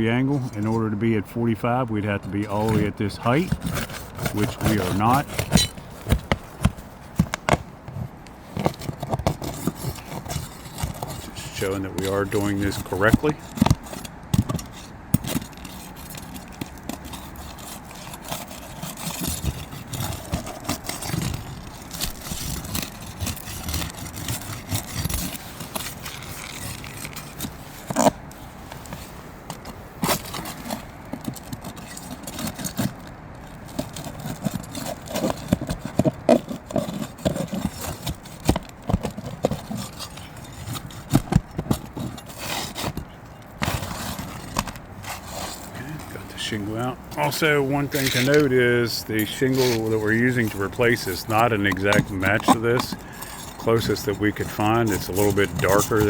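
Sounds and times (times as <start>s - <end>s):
shingle scraping: 0.0s - 56.0s.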